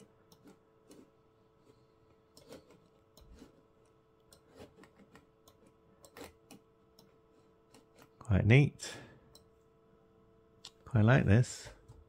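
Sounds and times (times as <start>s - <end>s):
computer fan humming: 0.0s - 12.0s.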